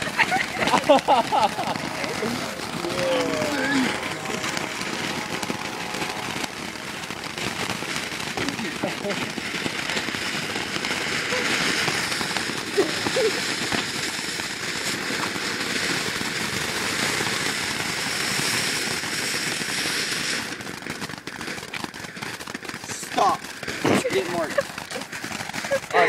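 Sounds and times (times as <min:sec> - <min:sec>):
firework hissing crackle: 0:00.0 - 0:26.0.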